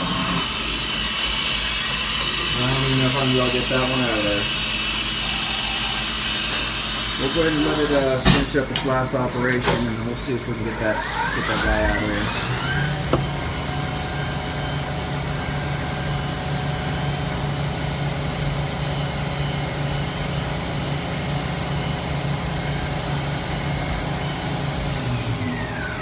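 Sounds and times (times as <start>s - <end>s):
machine mechanical hum with hiss: 0.0s - 26.0s.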